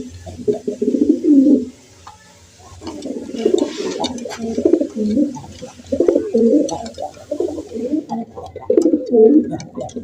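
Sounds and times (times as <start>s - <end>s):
pigeons cooing: 0.0s - 1.7s, 2.7s - 10.0s.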